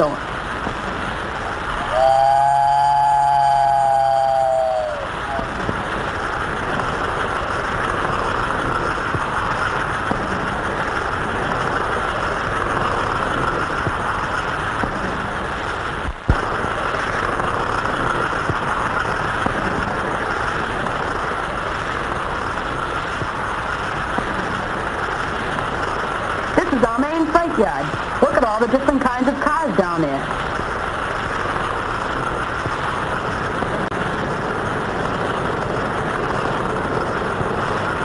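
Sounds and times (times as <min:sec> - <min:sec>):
toy train running on track: 0:00.0 - 0:38.0.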